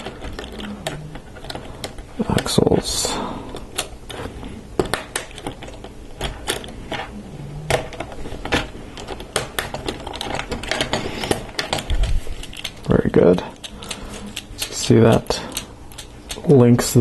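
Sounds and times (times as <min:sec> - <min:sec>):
plastic parts clicking and knocking: 0:00.0 - 0:02.7, 0:03.5 - 0:07.1, 0:07.7 - 0:17.0.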